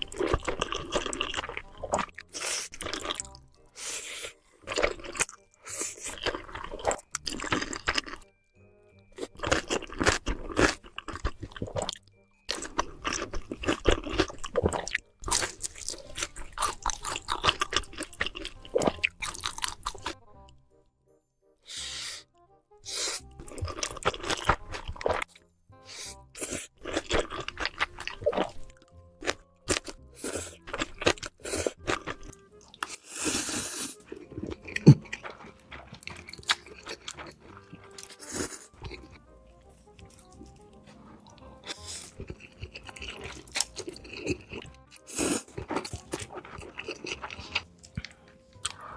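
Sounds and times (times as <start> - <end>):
crunching and chewing food: 0.0 - 8.3, 9.1 - 20.2, 22.9 - 48.9
quiet background music: 0.0 - 48.9.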